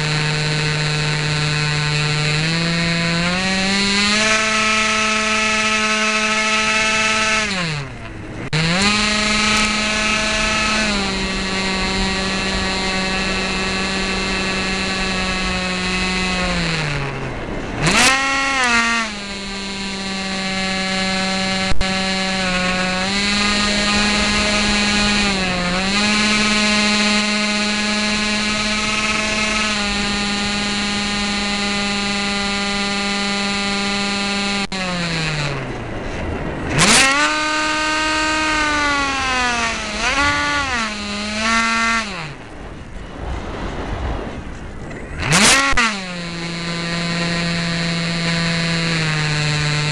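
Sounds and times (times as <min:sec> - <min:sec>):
model plane electric motor whine: 0:00.0 - 0:43.0, 0:45.2 - 0:49.9.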